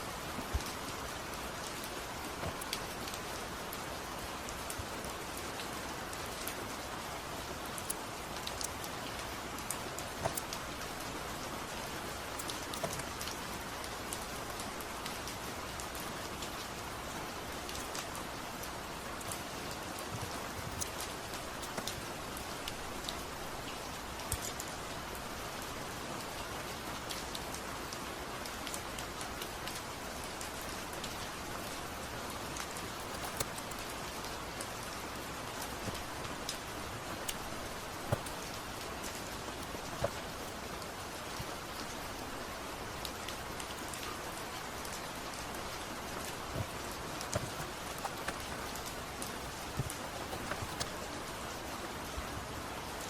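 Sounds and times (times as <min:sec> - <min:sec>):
sharp ticks of raindrops: 0:00.0 - 0:47.5.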